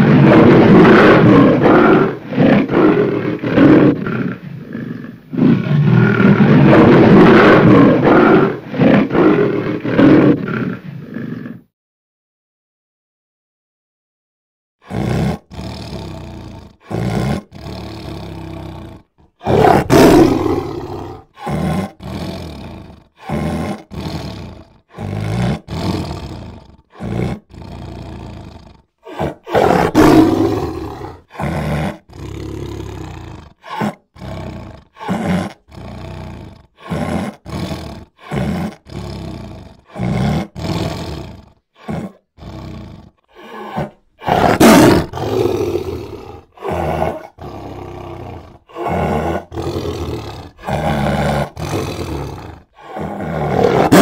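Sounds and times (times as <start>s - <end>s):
big cats roaring: 0.0s - 11.7s, 14.8s - 54.0s.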